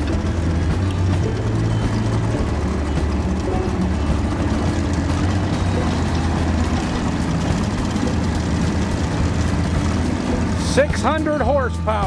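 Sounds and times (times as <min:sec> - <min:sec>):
outboard engine running: 0:00.0 - 0:12.0.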